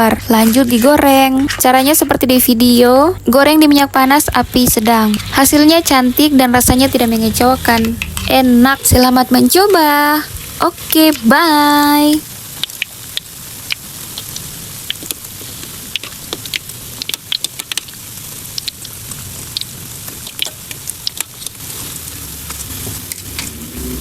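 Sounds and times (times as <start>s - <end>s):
dough sizzling in hot oil: 0.0s - 24.0s.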